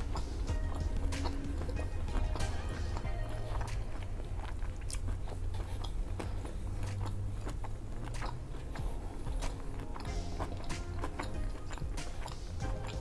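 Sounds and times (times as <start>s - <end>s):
chewing crunchy chips: 0.0s - 13.0s
steady low hum: 0.0s - 13.0s.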